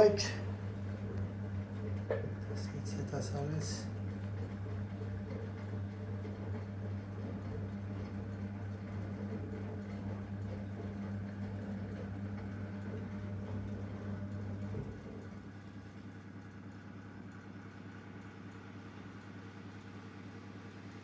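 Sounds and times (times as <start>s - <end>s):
washing machine humming: 0.0s - 21.0s.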